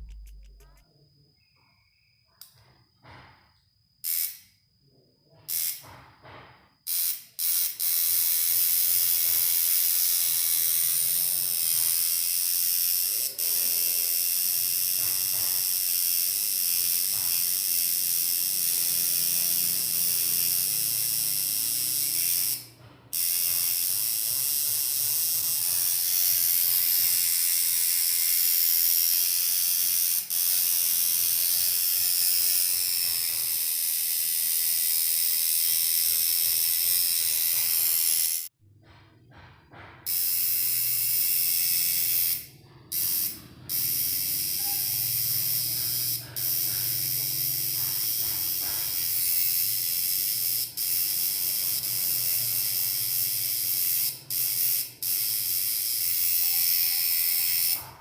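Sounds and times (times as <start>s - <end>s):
tattoo machine buzzing: 0.0s - 0.8s, 4.0s - 4.6s, 5.5s - 38.6s, 40.0s - 58.0s.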